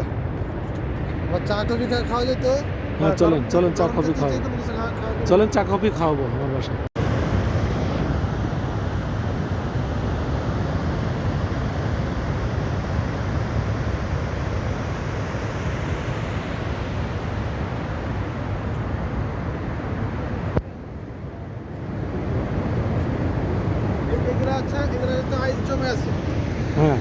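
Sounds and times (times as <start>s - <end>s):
rushing noise with low rumble: 0.0s - 27.0s.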